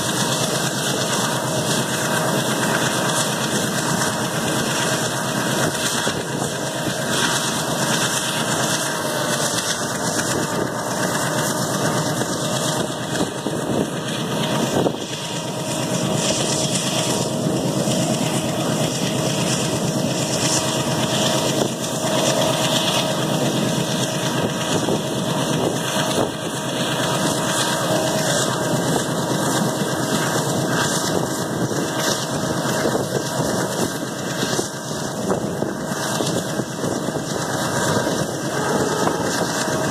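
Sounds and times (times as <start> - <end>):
train running noise and wind: 0.0 - 39.9.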